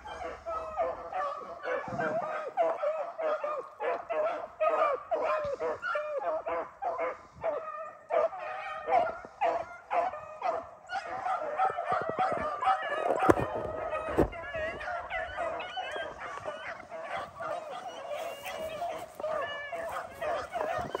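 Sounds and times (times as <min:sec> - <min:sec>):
dogs baying: 0:00.0 - 0:21.0.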